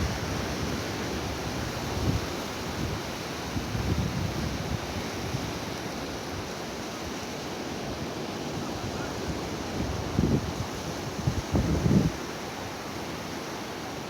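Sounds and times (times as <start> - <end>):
ocean surf on sandy beach: 0.0 - 14.0.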